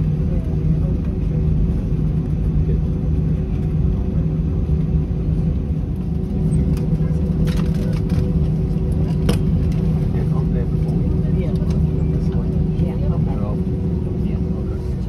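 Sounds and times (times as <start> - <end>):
aircraft engines idling rumble: 0.0 - 15.0.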